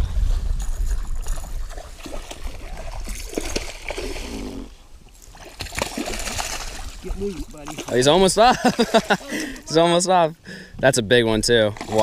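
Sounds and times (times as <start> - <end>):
water splashing: 0.0 - 9.9, 11.5 - 12.0.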